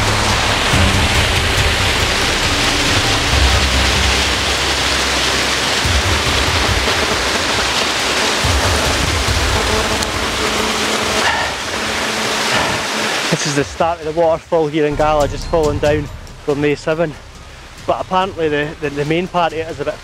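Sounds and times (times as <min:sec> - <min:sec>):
low thumps: 0:00.0 - 0:13.0, 0:14.9 - 0:20.0
water rushing down waterfall: 0:00.0 - 0:20.0.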